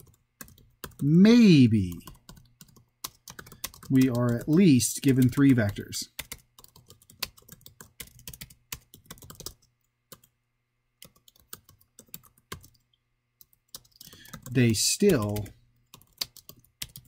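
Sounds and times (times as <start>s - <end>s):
computer keyboard typing: 0.0s - 10.3s, 11.0s - 17.0s.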